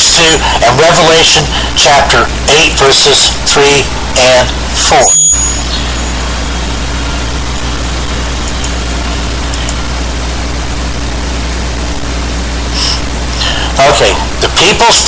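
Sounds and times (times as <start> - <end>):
steady low hum with hiss: 0.0 - 15.0.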